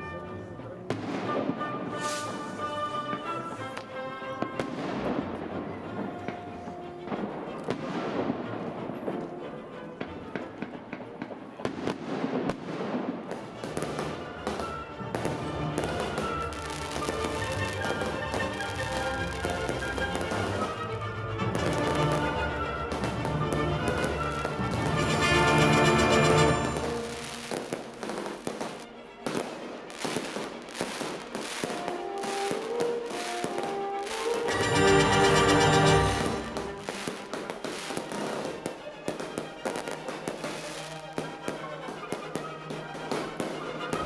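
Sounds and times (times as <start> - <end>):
music: 0.0 - 44.0
fireworks bursting and crackling: 0.9 - 44.0.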